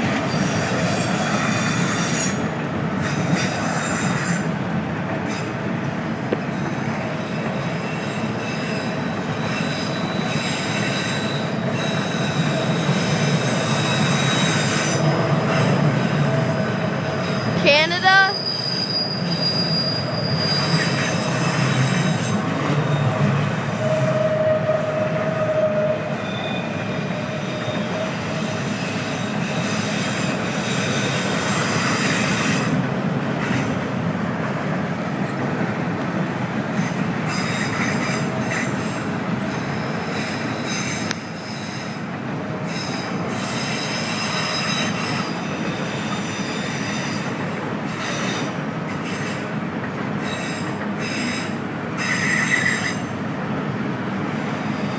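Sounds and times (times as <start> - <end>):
train wheel squeal: 0.0 - 34.0, 36.6 - 53.4, 54.0 - 54.9
train wheels rumbling on rails: 0.0 - 54.9.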